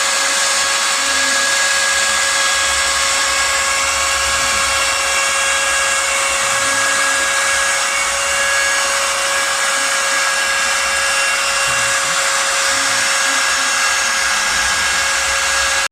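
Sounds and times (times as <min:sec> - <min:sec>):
router spindle motor whining: 0:00.0 - 0:15.9.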